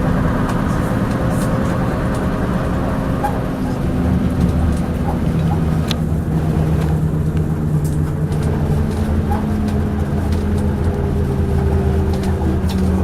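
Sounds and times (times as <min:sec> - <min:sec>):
bus diesel engine running: 0:00.0 - 0:13.0
clanks and rattles: 0:00.0 - 0:13.0.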